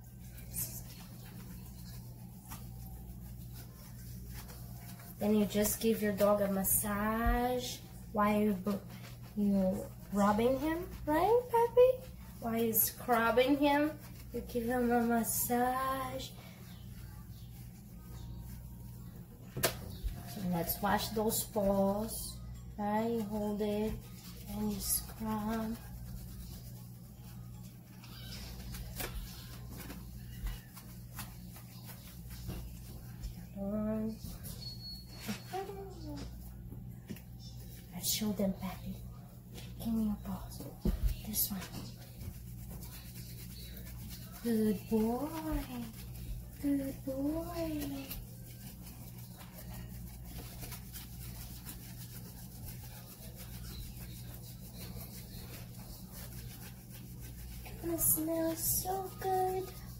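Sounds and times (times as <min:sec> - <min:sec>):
hands rubbing wet lather: 0:00.0 - 0:33.6, 0:37.2 - 0:59.9.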